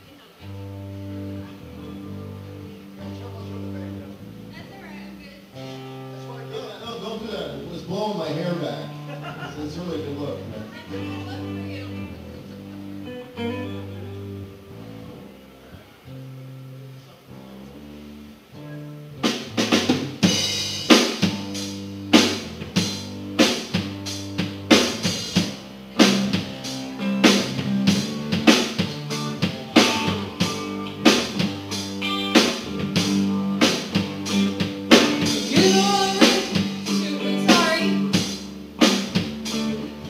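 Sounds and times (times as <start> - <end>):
low guitar notes: 0.0 - 40.0
rock band playing: 0.0 - 40.0.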